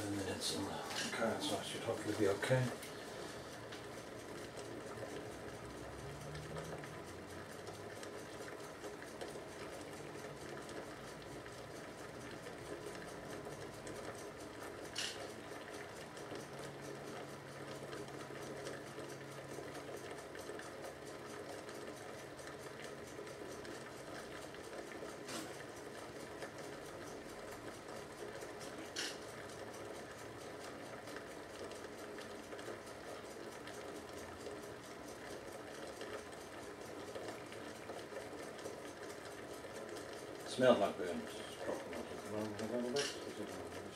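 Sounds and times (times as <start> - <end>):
water boiling and bubbling: 0.0 - 43.9.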